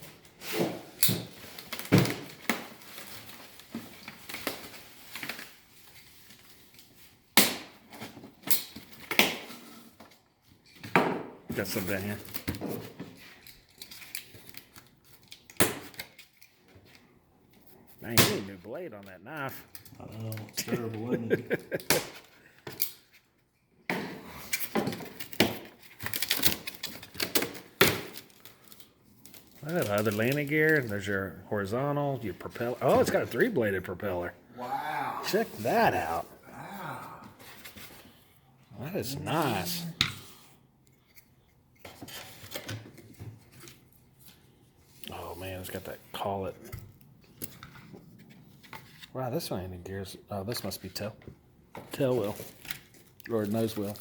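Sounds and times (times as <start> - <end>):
box and packaging being handled: 0.0 - 34.5, 35.2 - 49.2, 50.5 - 54.0.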